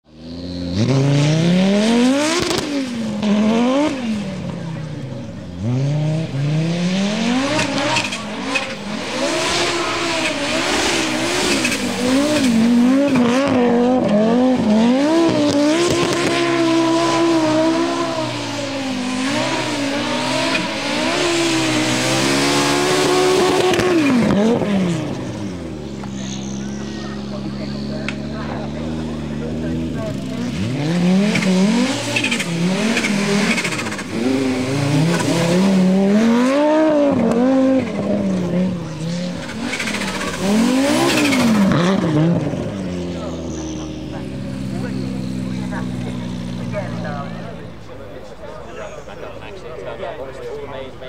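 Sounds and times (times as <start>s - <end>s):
car engine revving hard: 0.1s - 47.8s.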